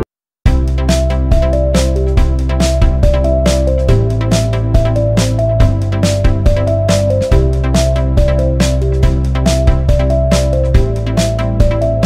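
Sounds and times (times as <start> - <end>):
electronic music with synth melody: 0.0 - 12.0.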